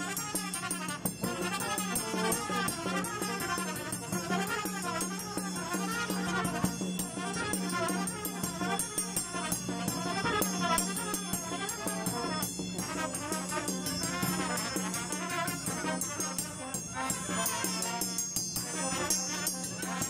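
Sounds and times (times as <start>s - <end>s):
bass drum and cymbal beat: 0.0s - 20.0s
brass band playing: 0.0s - 20.0s.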